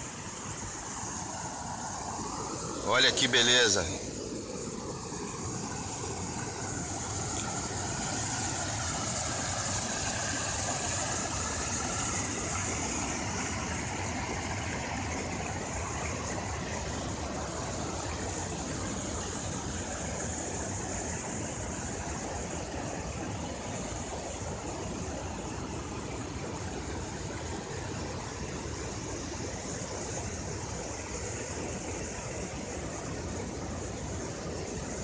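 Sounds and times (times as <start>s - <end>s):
water rushing down rapids: 0.0s - 35.0s.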